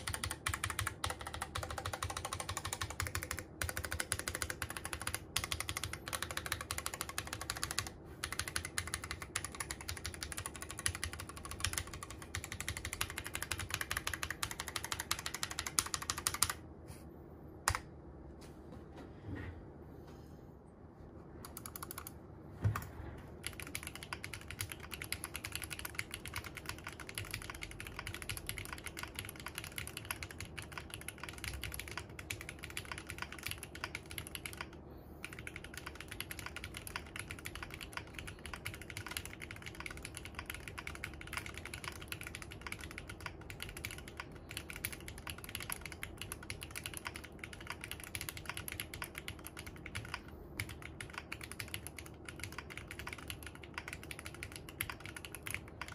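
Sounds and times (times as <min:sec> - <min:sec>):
mechanical keyboard typing: 0:00.0 - 0:16.6, 0:17.7 - 0:17.9, 0:21.4 - 0:55.9.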